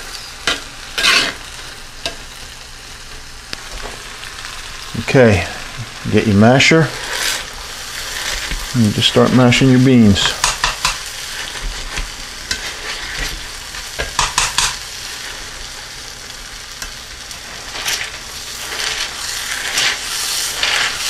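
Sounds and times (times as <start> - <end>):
beans sizzling in butter: 0.0 - 21.0.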